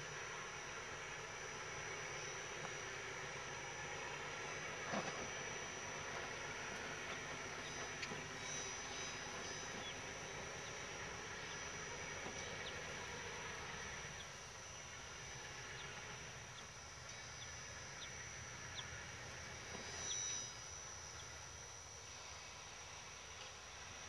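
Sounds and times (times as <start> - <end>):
faint locomotive rumble: 0.0 - 24.0
insects chirring: 0.0 - 24.0.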